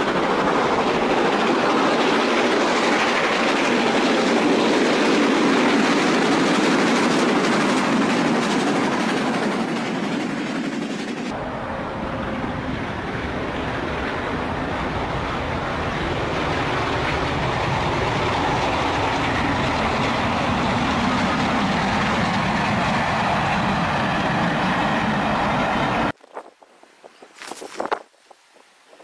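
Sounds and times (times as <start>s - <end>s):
steam train passing: 0.0s - 26.2s.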